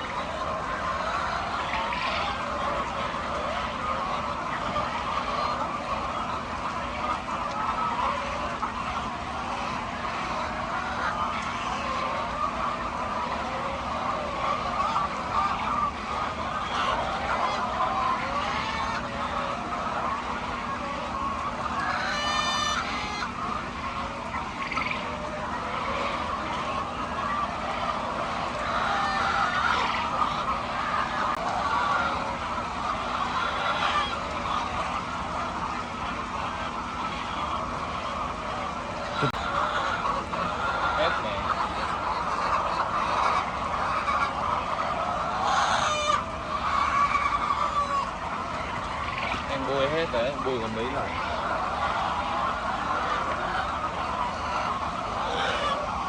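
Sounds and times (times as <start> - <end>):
chickens clucking: 0.0 - 56.0
loud drawn-out chicken call: 0.0 - 56.0.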